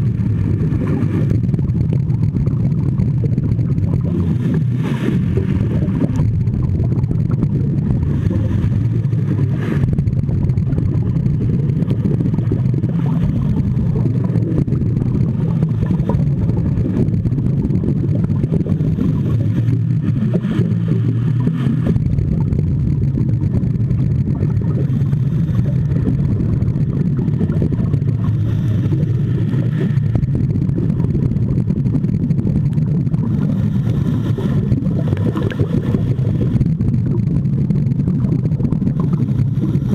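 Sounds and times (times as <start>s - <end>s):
underwater low rumble: 0.0s - 39.9s.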